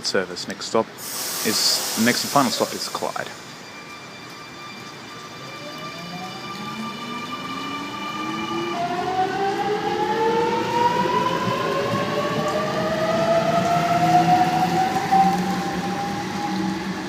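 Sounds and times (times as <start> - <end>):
electric train inverters whining: 1.0 - 17.0.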